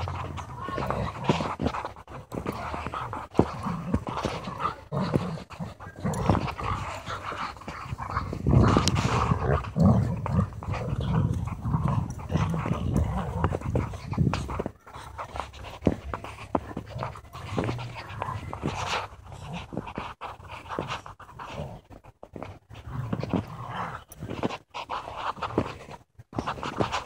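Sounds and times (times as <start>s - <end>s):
dogs growling: 0.0s - 27.0s
dogs panting: 0.0s - 27.0s.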